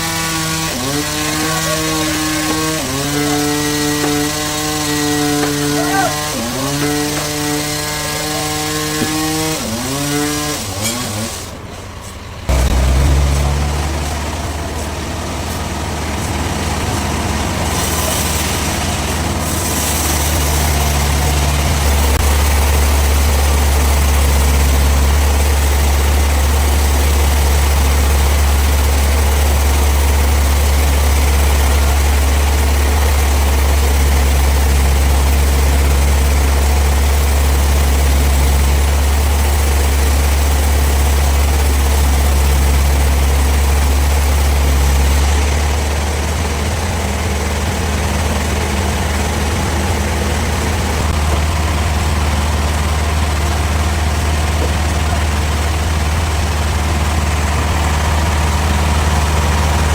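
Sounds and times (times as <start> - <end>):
engine-driven machine running: 0.0 - 59.9
heavy engine idling: 0.0 - 59.9.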